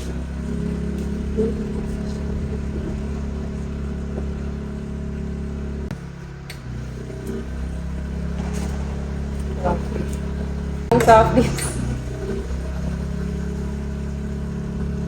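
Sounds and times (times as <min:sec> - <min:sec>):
generator engine droning: 0:00.0 - 0:15.0.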